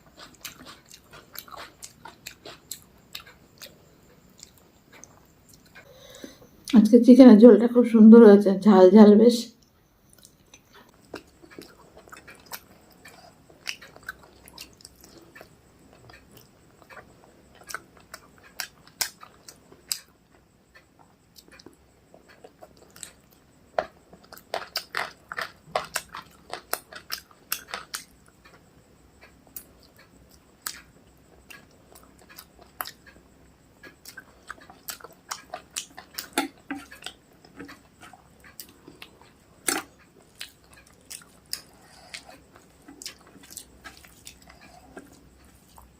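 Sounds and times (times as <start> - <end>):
person chewing food: 0.0 - 6.8, 10.1 - 45.9.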